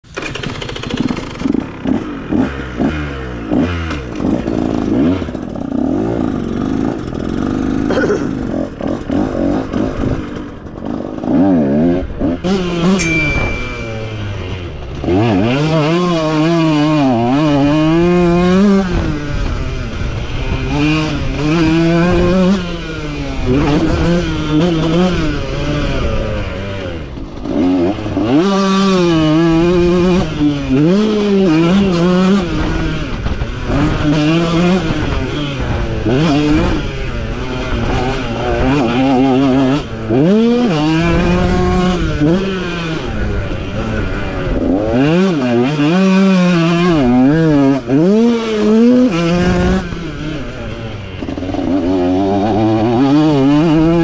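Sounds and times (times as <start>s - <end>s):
motocross bike engine revving: 0.2s - 13.0s, 15.0s - 54.0s.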